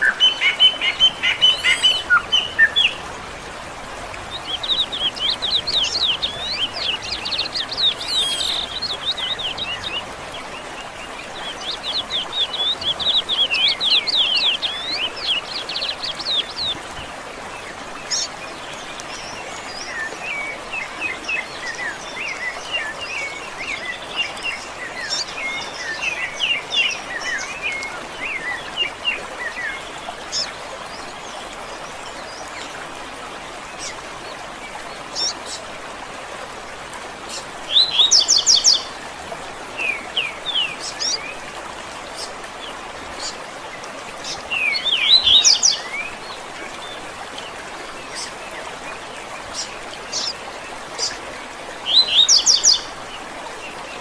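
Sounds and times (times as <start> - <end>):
songbirds singing: 0.0 - 35.7, 37.2 - 54.0.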